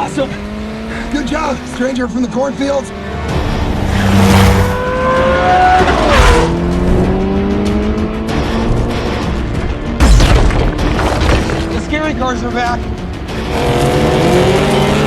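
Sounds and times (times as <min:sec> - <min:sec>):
car engines revving hard: 0:00.0 - 0:10.0, 0:10.8 - 0:15.0
music: 0:01.6 - 0:15.0.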